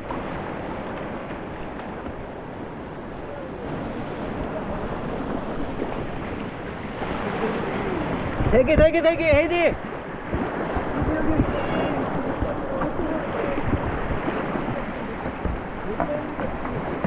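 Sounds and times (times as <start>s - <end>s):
creek whitewater rushing: 0.0s - 17.0s
wind noise on microphone: 0.0s - 17.0s.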